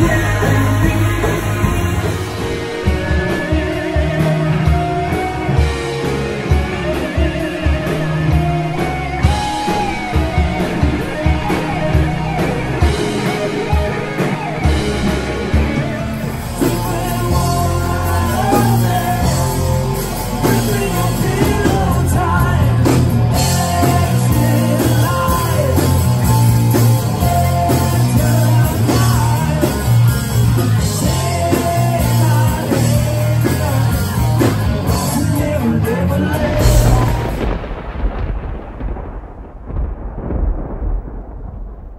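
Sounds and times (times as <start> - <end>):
person singing: 0.0 - 12.2, 15.8 - 37.6
live rock band playing: 0.0 - 38.6
electric guitar: 0.0 - 39.1.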